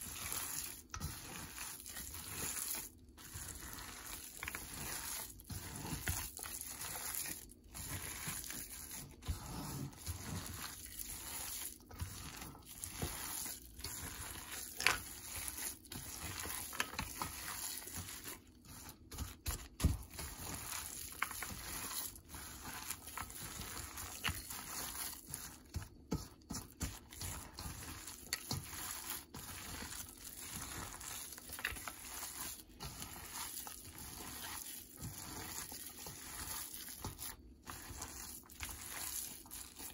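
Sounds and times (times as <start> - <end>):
hand squishing minced meat: 0.0 - 39.9.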